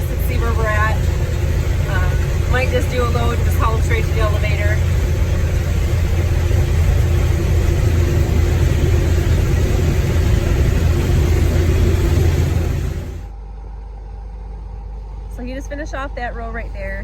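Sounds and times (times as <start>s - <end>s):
large engine rumbling: 0.0s - 13.5s, 14.2s - 17.0s.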